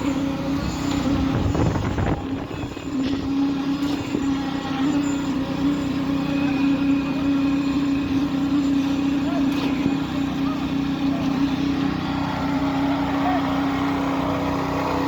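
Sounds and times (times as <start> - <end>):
heavy diesel truck engine droning: 0.0 - 15.0.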